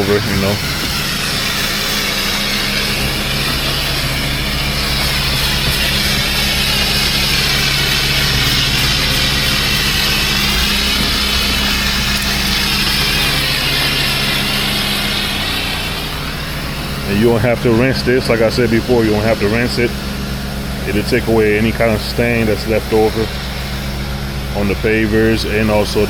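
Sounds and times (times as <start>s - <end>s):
pressure washer engine running: 0.0s - 26.0s
water spraying hiss: 0.0s - 26.0s.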